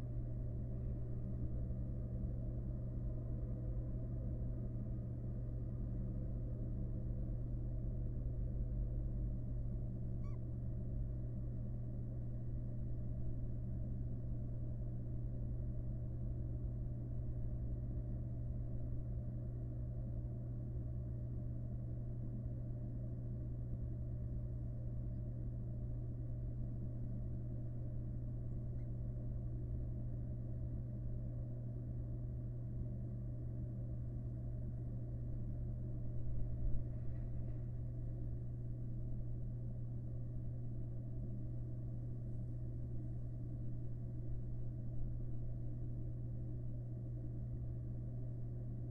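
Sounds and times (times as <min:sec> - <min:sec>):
low electrical hum: 0:00.0 - 0:48.9.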